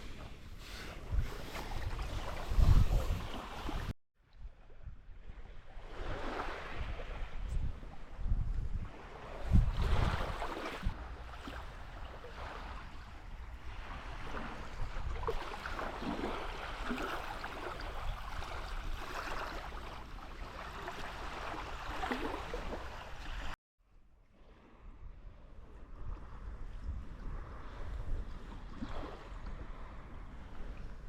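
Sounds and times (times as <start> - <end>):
wind buffeting the microphone: 0.0 - 23.6, 24.5 - 31.0.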